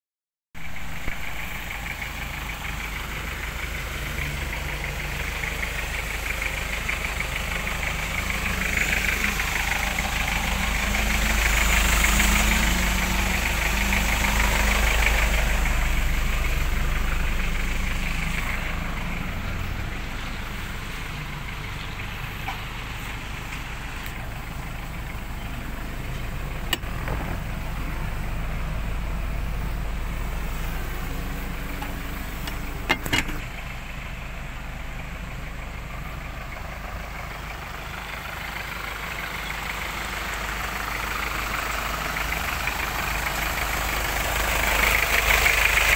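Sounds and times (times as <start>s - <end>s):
diesel truck engine idling: 0.6s - 45.9s.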